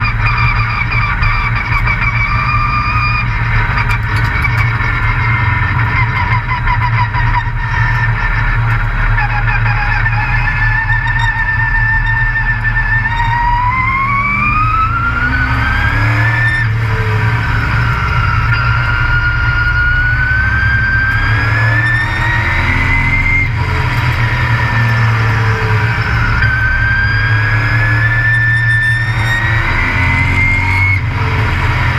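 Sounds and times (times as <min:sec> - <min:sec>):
truck engine revving hard: 0:00.0 - 0:31.9
whine climbing in pitch: 0:00.0 - 0:31.9.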